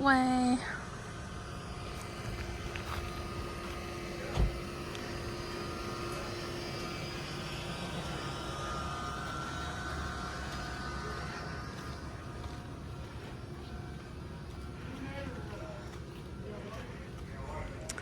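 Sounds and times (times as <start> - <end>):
vehicle driving slowly: 0.0 - 18.0.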